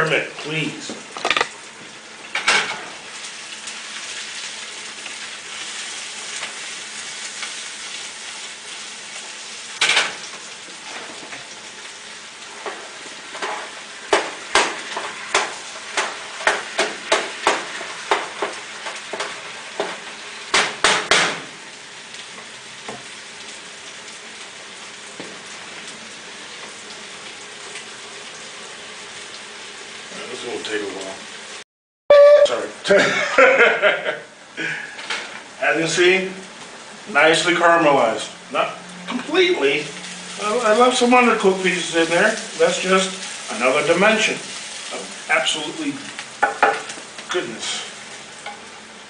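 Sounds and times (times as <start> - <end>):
food sizzling in a pot: 0.0 - 49.0.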